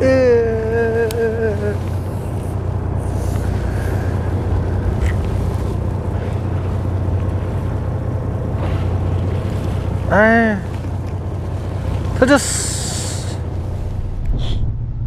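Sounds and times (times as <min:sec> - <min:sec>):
boat engine humming: 0:00.0 - 0:14.9
water noise: 0:00.0 - 0:15.0
wind: 0:00.0 - 0:15.0.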